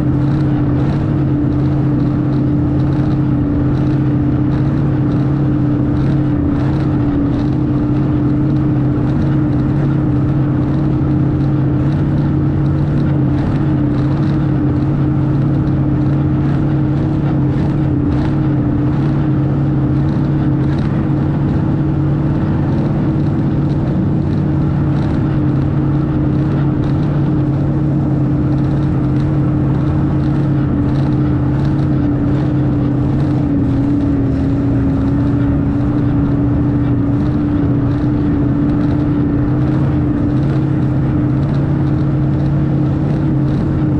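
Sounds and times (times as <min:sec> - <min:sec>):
snowmobile engine running: 0:00.0 - 0:43.9
track and wind noise: 0:00.0 - 0:43.9.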